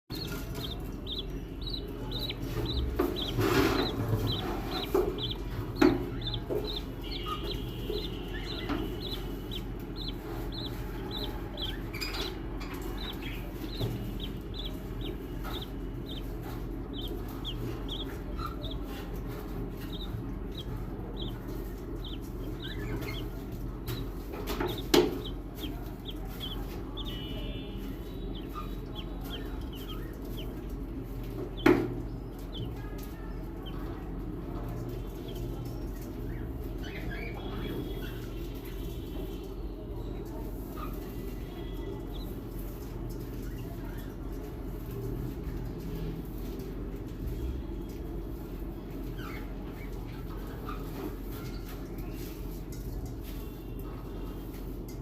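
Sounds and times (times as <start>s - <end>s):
chicks cheeping: 0.0s - 55.0s
low steady hum: 0.1s - 55.0s.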